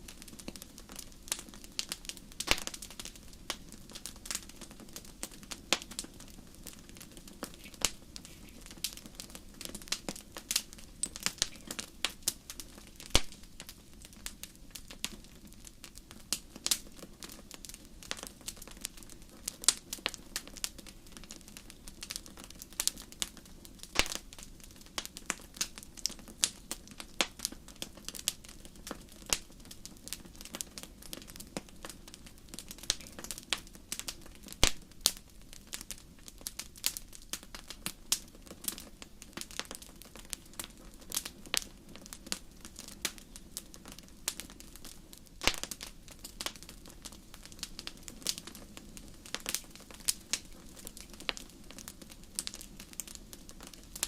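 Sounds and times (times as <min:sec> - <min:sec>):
fire crackling and popping: 0:00.0 - 0:54.0
low rush of flames: 0:00.0 - 0:54.0.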